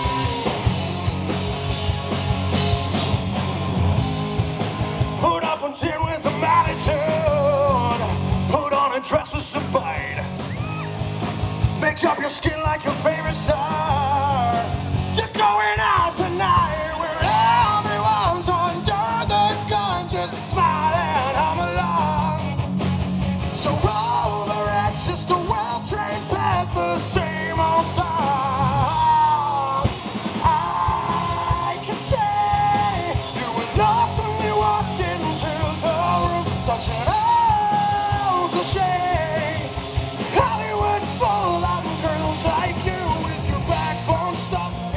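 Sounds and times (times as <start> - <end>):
man singing lead vocal: 0.0 - 1.0, 5.0 - 10.8, 11.7 - 22.8, 23.5 - 44.9
rock band playing: 0.0 - 44.9.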